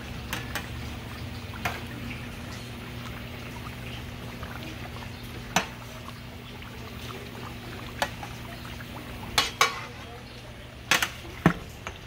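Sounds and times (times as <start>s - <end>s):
meat bubbling in hot fat: 0.0s - 12.0s.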